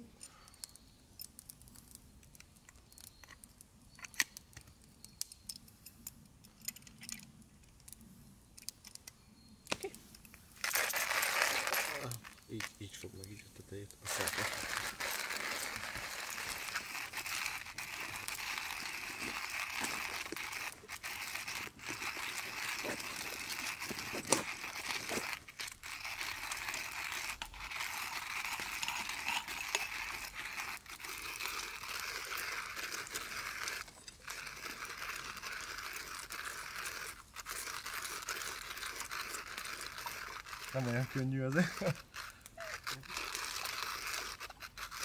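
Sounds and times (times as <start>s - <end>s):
hand coffee grinder grinding: 0.6s - 8.0s, 9.7s - 45.0s.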